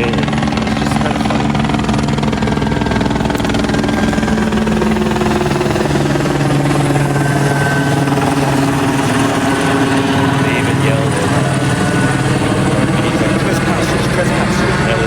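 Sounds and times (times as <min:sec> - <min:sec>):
helicopter engine drone: 0:00.0 - 0:15.0
helicopter rotor beating: 0:00.0 - 0:15.0.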